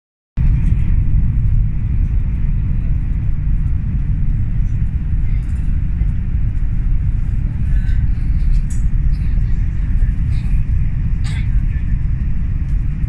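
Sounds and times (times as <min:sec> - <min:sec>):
train cabin low rumble: 0:00.4 - 0:13.0.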